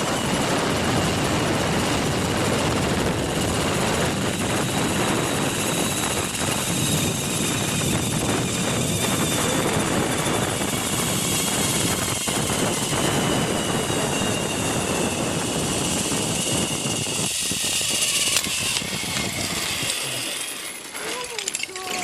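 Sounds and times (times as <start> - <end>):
wind buffeting microphone: 0.0 - 20.2
zipline pulleys whining on cable: 0.0 - 22.0.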